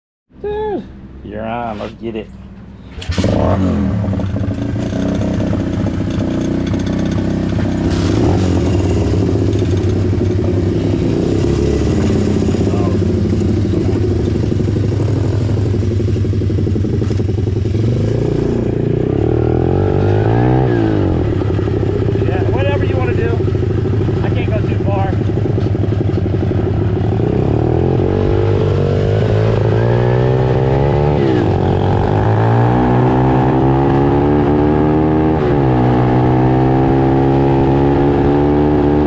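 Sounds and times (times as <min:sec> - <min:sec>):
motorbike engine revving: 0:02.9 - 0:39.0.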